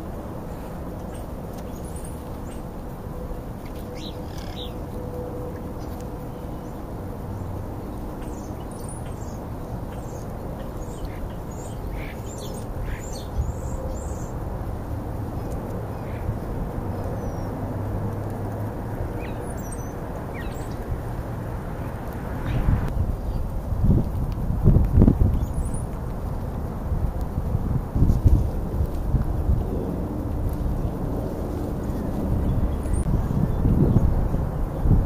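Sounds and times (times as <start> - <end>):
low background rumble: 0.0 - 35.0.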